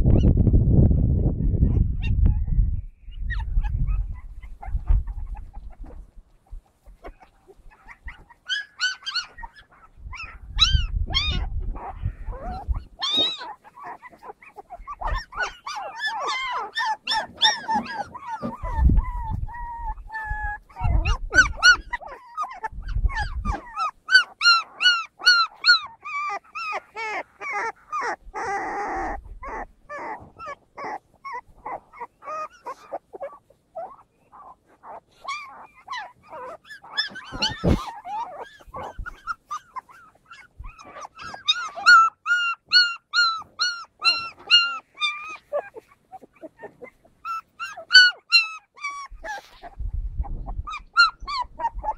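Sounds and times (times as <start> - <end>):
puppies yipping and whimpering: 0.0 - 0.4, 1.4 - 51.9.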